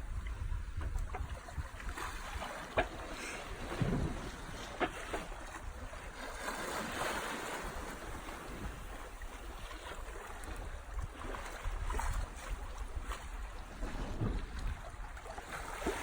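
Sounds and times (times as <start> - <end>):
water splashing past boat hull: 0.0 - 16.0
wind buffeting microphone: 0.0 - 16.0.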